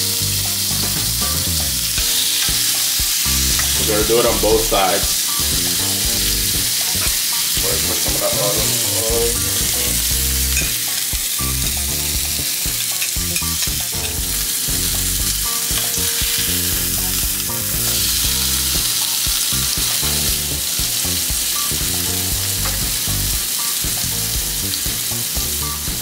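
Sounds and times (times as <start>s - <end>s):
fish sizzling in a grill pan: 0.0s - 26.0s.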